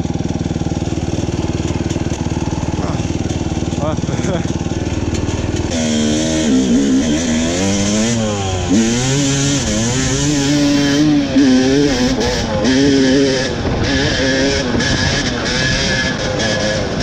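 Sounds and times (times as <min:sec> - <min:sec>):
dirt bike engine accelerating: 0:00.0 - 0:17.0.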